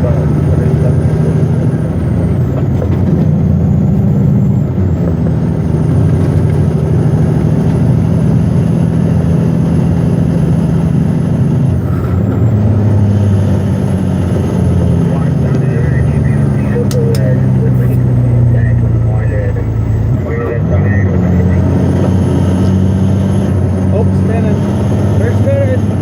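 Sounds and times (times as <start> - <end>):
diesel truck engine pulling hard: 0.0 - 26.0.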